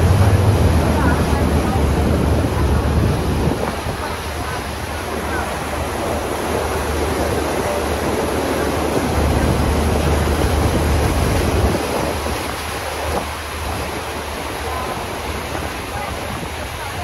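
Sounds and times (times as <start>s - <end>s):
low engine rumble: 0.0s - 17.0s
water rushing past boat: 0.0s - 17.0s
wind: 0.0s - 17.0s.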